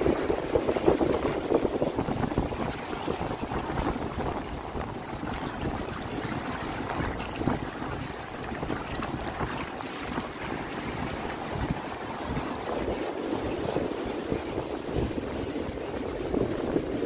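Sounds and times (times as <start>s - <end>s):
shallow surf: 0.0s - 17.0s
wind buffeting microphone: 0.0s - 17.0s.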